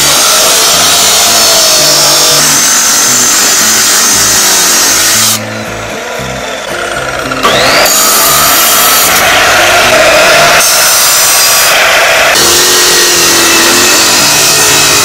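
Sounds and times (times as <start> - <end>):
chop saw grinding steel: 0.0 - 15.0
rising whine: 2.1 - 15.0.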